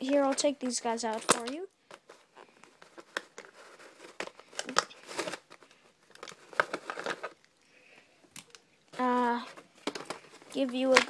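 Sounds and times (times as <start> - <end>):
plastic packaging crinkling: 0.0 - 7.6, 8.2 - 11.0.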